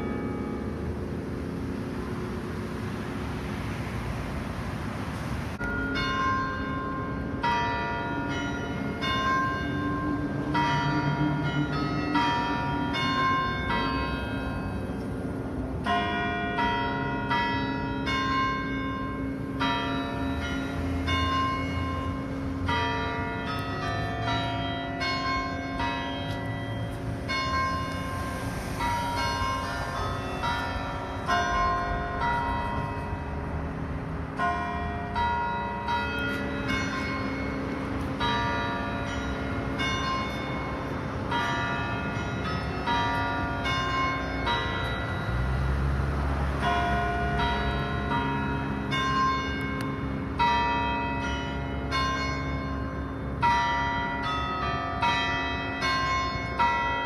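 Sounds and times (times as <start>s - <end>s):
church bells ringing: 0.0s - 2.6s, 5.6s - 57.0s.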